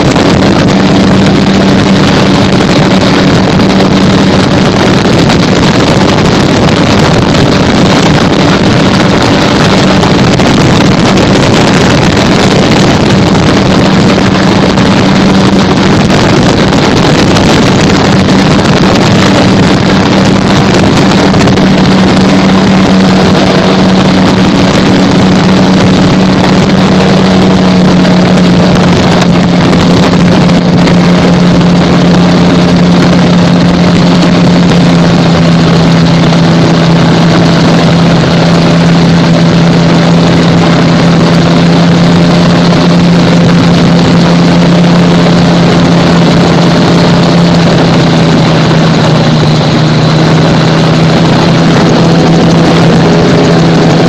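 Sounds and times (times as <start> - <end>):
gyrocopter engine and propeller droning: 0.0 - 54.0.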